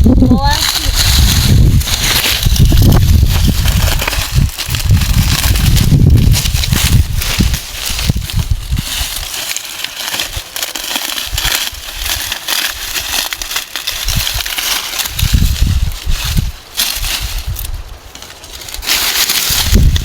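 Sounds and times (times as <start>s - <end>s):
dry maize stalks crackling: 0.2s - 20.0s.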